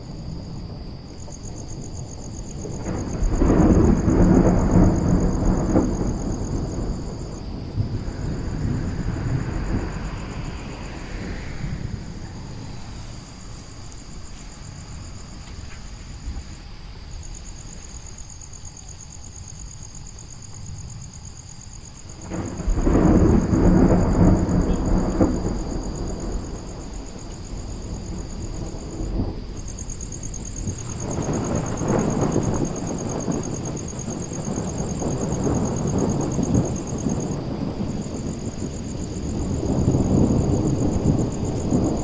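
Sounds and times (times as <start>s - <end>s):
loud thunder clap: 0.0s - 16.6s, 22.2s - 42.0s
thunder rumbling: 0.0s - 42.0s.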